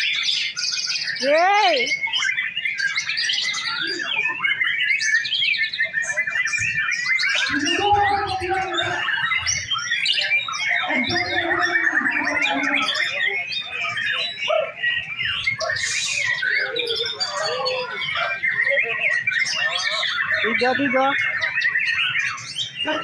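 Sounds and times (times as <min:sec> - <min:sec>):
songbird trilling and whistling: 0:00.0 - 0:23.0.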